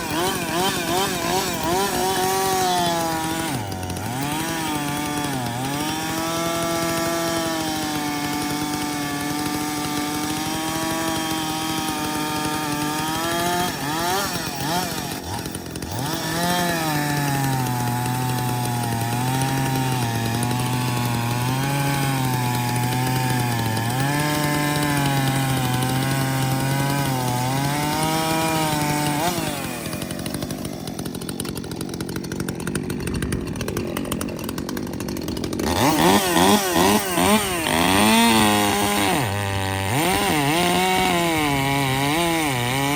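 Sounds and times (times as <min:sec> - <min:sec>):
chainsaw running at high revs: 0:00.0 - 0:42.9.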